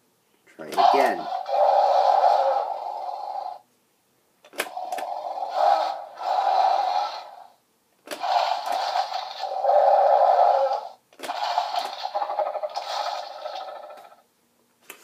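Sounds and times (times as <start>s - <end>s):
toy dinosaur electronic roar: 0.7s - 3.6s, 4.6s - 14.2s.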